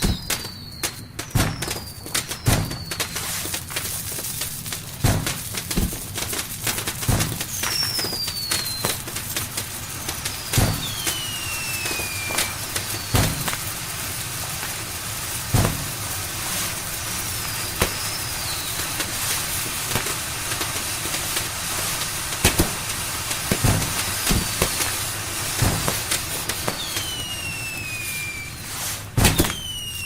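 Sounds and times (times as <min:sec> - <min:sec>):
fireworks bangs: 0:00.0 - 0:30.0
fireworks crackling hiss: 0:00.0 - 0:30.0
whistling rockets: 0:00.0 - 0:30.0.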